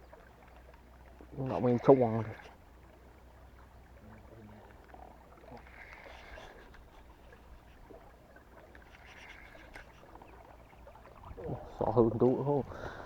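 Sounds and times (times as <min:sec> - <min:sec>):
soft water noise: 0:00.0 - 0:13.0.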